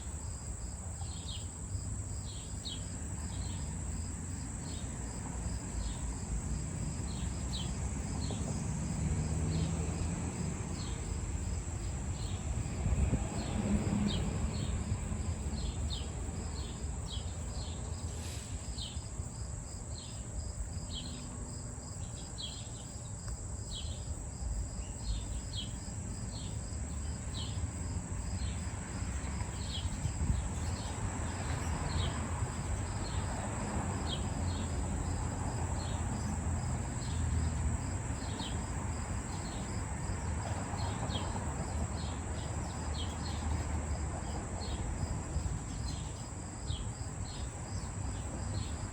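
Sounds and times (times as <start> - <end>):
crickets chirping: 0.0 - 48.9
insects droning: 0.0 - 48.9.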